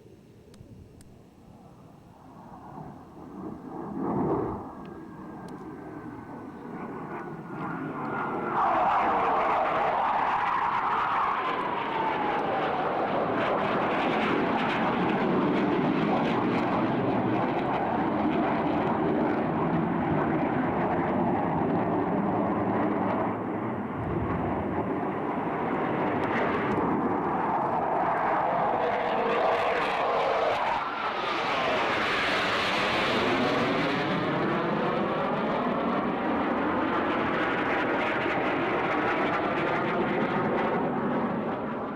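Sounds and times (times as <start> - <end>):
jet engines roaring past: 0.0 - 41.9.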